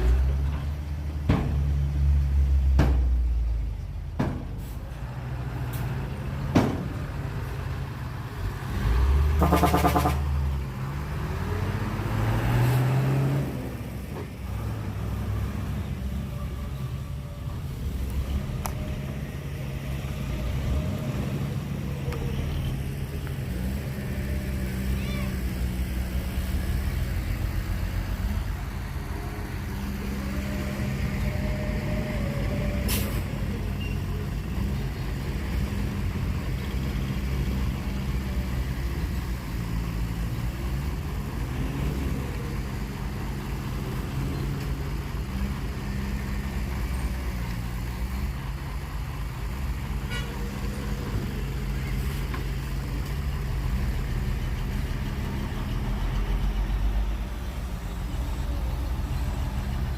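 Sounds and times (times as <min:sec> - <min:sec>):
heavy diesel engine running: 0:00.0 - 0:12.2, 0:13.2 - 0:59.9.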